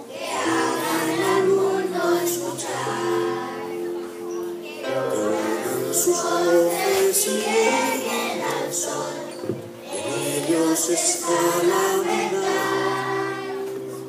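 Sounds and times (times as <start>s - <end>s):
children's choir singing: 0.0s - 14.0s
instrumental accompaniment: 0.0s - 14.0s.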